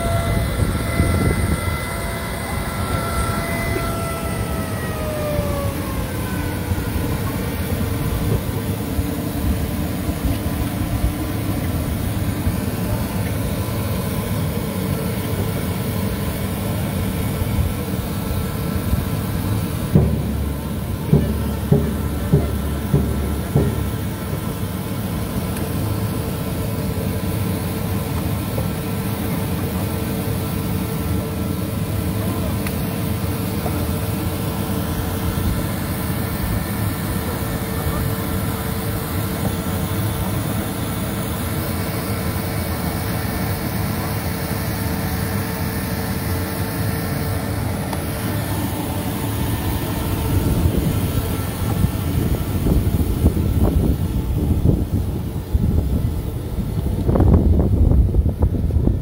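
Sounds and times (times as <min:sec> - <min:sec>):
engine drone with whine: 0:00.0 - 0:59.0.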